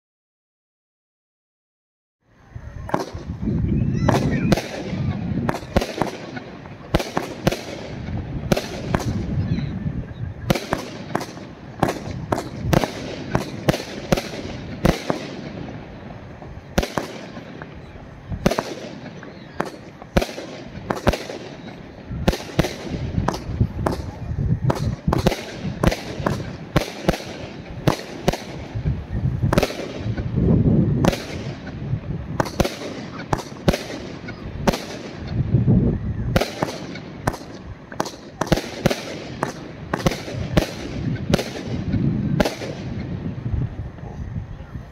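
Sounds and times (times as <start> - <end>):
continuous rumble: 2.4 - 44.9
firework launch and burst reports: 2.8 - 44.1.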